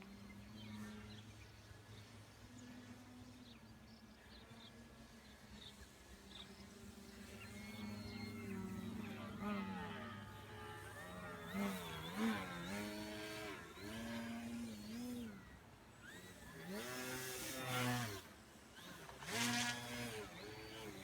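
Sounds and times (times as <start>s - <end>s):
model plane electric motor buzzing: 0.0s - 21.0s.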